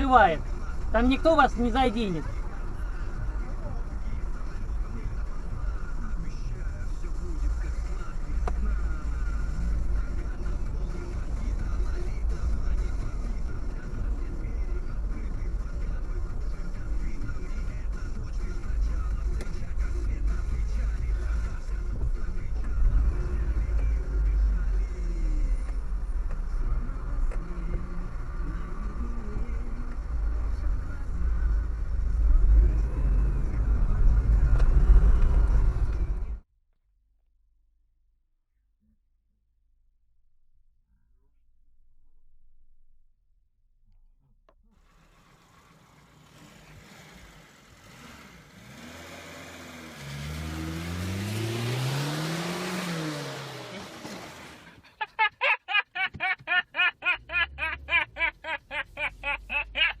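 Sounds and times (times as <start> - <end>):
car engine and road rumble: 0.0 - 36.5, 43.9 - 60.0.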